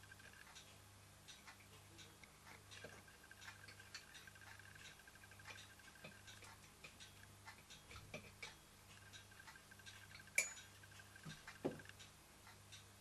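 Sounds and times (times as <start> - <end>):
small metallic ticks and clicks: 0.0 - 13.0.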